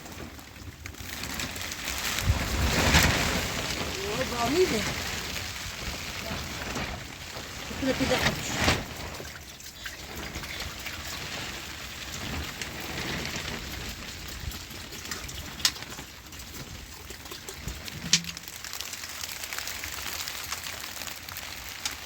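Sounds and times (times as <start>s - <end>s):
rain hissing: 0.0s - 16.8s, 17.5s - 22.0s
rain drips: 0.0s - 22.0s.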